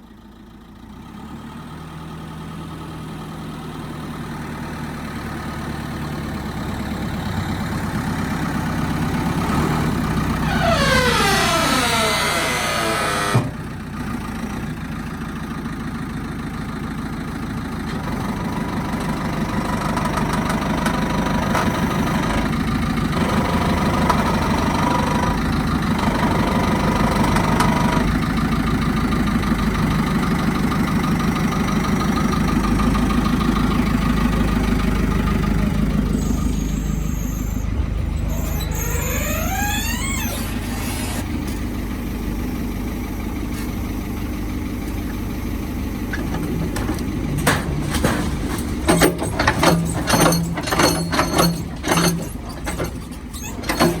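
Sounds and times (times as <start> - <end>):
diesel engine revving and idling: 0.0 - 54.0.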